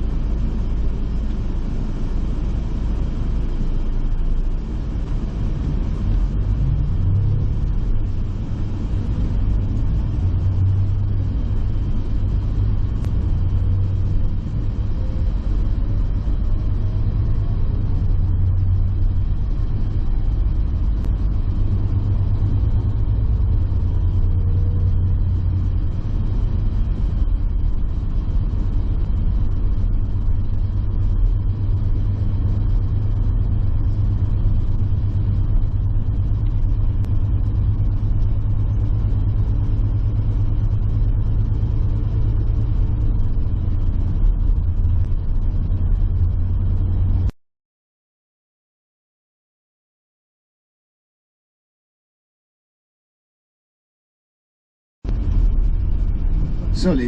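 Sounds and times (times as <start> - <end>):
bus engine and road rumble: 0.0 - 47.4, 55.1 - 57.0.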